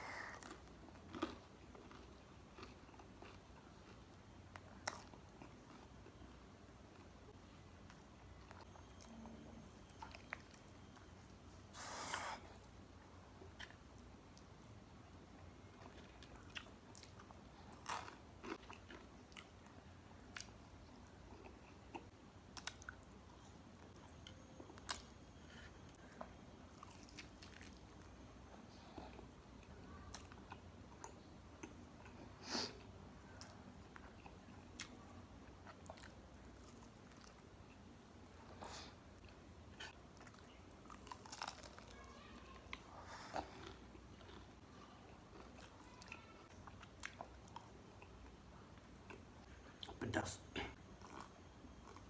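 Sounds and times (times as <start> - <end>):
chewing crispy food: 0.3 - 11.3, 12.6 - 14.6, 15.3 - 50.2, 50.8 - 52.0.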